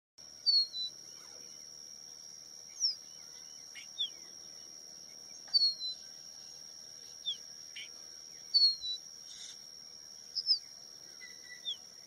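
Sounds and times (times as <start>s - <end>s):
steady high-pitched whine: 0.2s - 12.0s.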